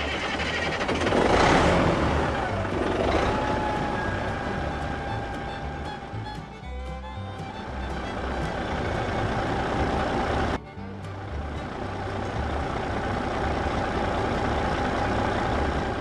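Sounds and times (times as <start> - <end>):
background music with bass: 0.0 - 16.0
vehicle engine running: 0.0 - 16.0.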